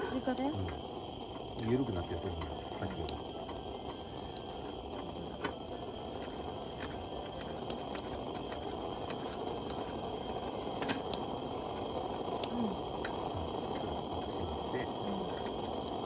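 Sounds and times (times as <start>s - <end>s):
camping burner roaring hiss: 0.0s - 16.0s.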